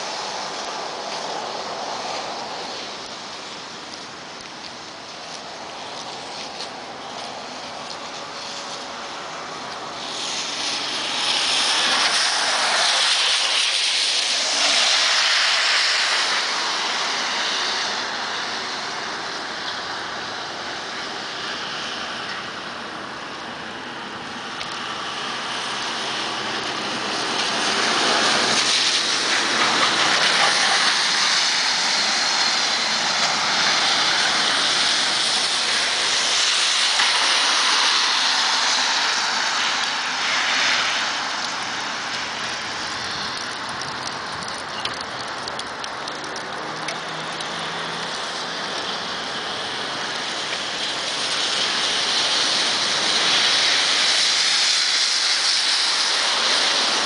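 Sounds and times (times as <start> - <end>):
tyres hissing on wet street: 0.0 - 57.0.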